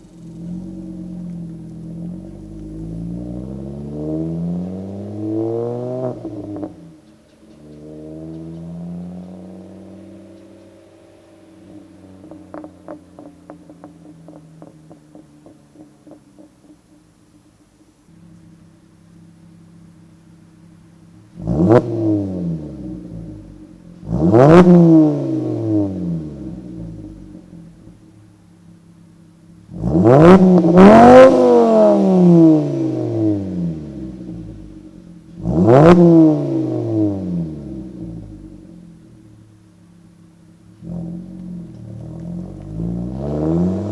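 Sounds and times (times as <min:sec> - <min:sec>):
car engine idling: 0:00.0 - 0:43.9
exhaust crackles and pops: 0:00.0 - 0:43.9.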